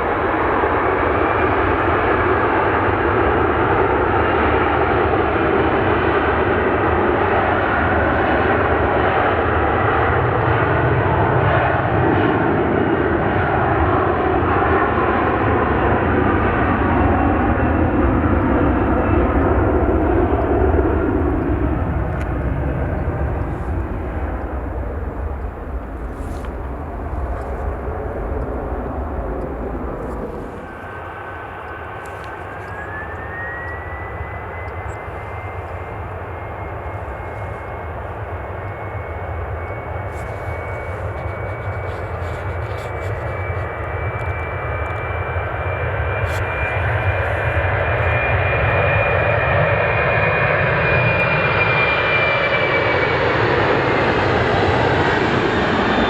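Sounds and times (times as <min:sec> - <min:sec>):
jet engines roaring: 0:00.0 - 0:56.0
rising jet engine whine: 0:00.0 - 0:56.0.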